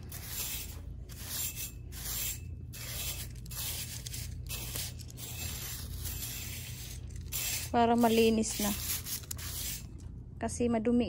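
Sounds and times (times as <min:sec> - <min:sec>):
broom scrubbing a pipe: 0:00.0 - 0:10.0
steady low hum: 0:00.0 - 0:11.0.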